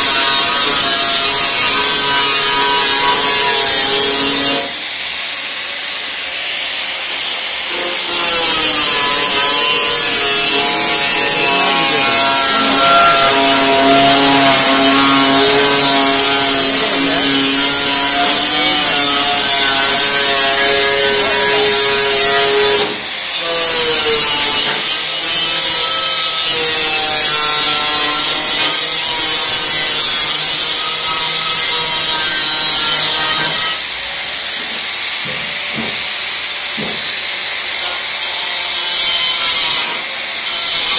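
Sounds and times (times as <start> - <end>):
angle grinder grinding steel: 0.0 - 40.9.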